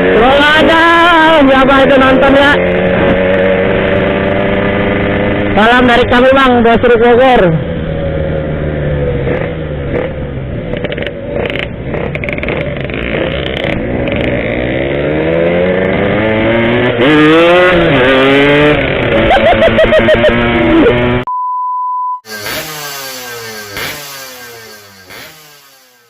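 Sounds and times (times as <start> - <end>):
two-stroke motorcycle engine revving: 0.0 - 21.3, 22.2 - 26.0.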